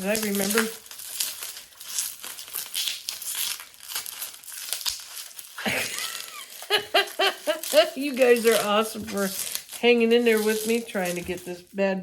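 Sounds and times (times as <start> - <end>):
packing material crinkling and tearing: 0.0 - 11.8.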